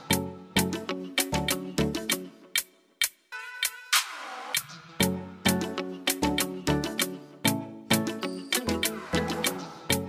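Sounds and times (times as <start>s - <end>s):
electronic music beat: 0.0s - 10.0s.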